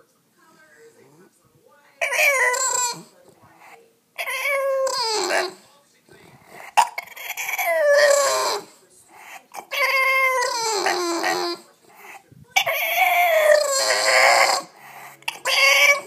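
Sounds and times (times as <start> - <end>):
puppy whining: 2.0 - 3.2, 4.2 - 16.0.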